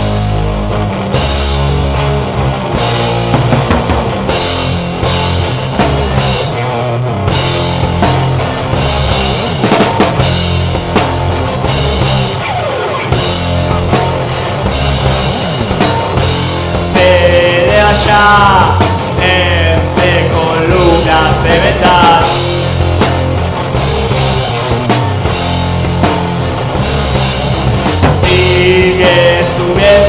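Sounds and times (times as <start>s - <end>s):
rock band playing instrumental: 0.0s - 30.0s.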